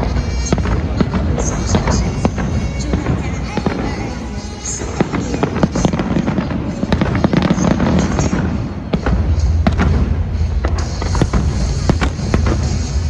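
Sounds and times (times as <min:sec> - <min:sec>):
fireworks bangs and crackles: 0:00.0 - 0:13.0
low rumble of firework bursts: 0:00.0 - 0:13.0.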